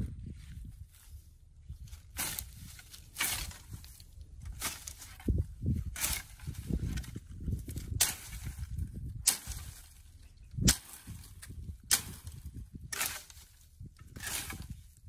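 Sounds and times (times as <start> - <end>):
hoe chopping into soil: 2.1 - 10.0, 10.6 - 14.9.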